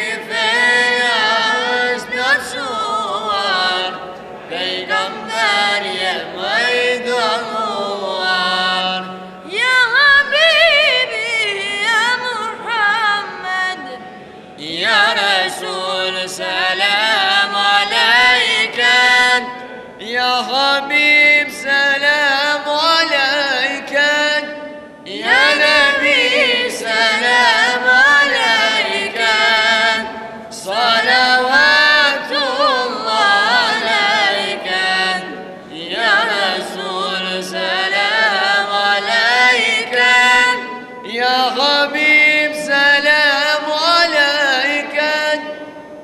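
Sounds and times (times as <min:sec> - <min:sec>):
boys singing devotional song: 0:00.0 - 0:45.6.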